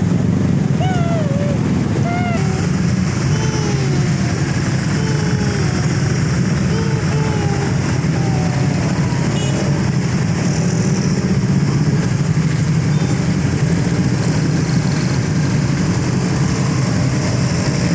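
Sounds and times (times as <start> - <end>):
low vehicle rumble: 0.0 - 17.9.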